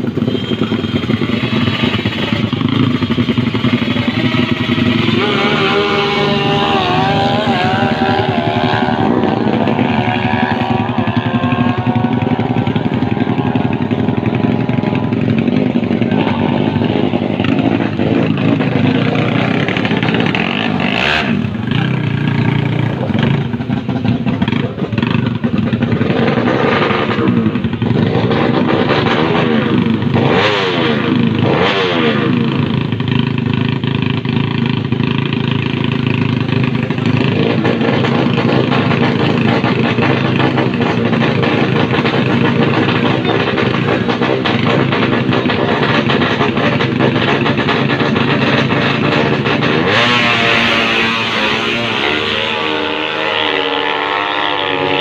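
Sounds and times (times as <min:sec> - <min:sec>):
scooter engine running loud: 0:00.0 - 0:55.0.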